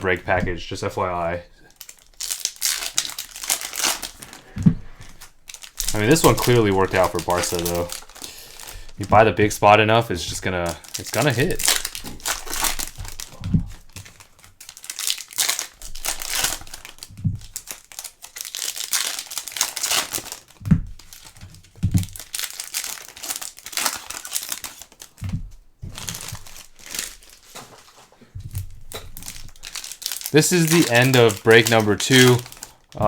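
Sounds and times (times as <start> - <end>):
foil wrappers crinkling and tearing: 0.0 - 33.0.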